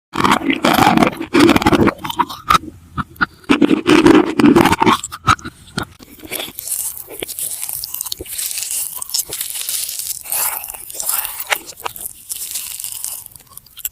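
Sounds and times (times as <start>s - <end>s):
crunching while chewing food: 0.2s - 13.9s.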